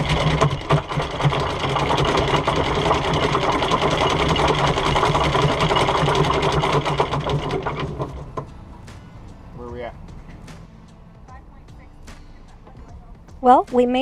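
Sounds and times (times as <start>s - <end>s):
motor rattling and humming: 0.0s - 13.1s.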